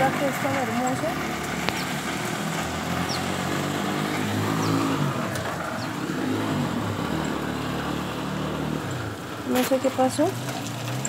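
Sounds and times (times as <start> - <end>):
engine running and revving: 0.0 - 11.0
rain hissing: 0.0 - 11.0.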